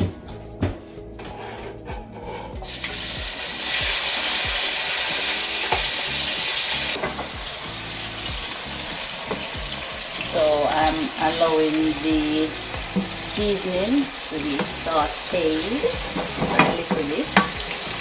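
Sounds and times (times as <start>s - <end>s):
food sizzling in pot: 2.6s - 18.0s.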